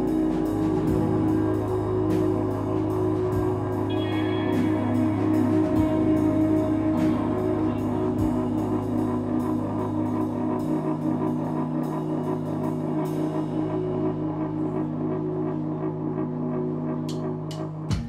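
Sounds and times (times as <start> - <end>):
drum and cymbal hits: 0.0 - 14.0, 17.1 - 18.0
bass: 0.0 - 18.0
electric guitar chords: 0.0 - 18.0
keyboard chords: 0.0 - 18.0.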